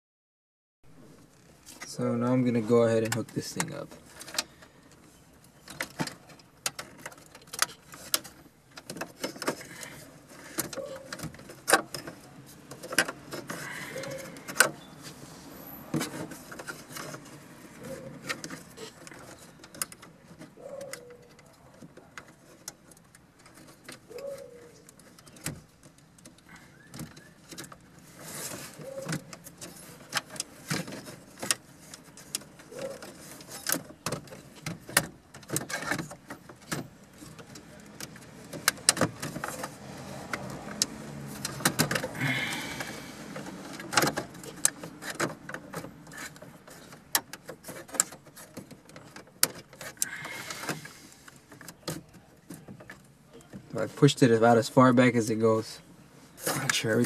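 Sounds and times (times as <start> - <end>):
car stereo clicking and scraping: 1.0 - 57.0.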